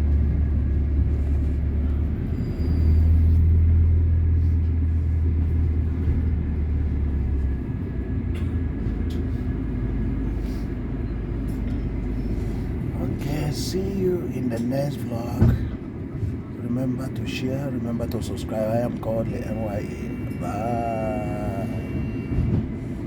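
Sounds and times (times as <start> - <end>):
bus rumble from inside: 0.0 - 23.0.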